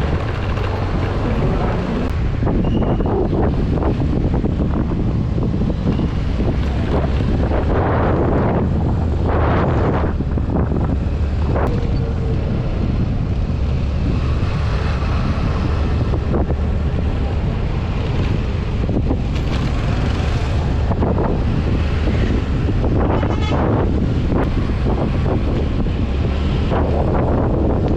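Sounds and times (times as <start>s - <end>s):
low vehicle rumble: 0.0s - 27.9s
wind buffeting microphone: 0.0s - 27.9s.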